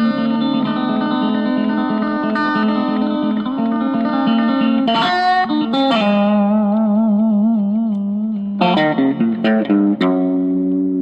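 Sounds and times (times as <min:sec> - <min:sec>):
guitar background music: 0:00.0 - 0:11.0.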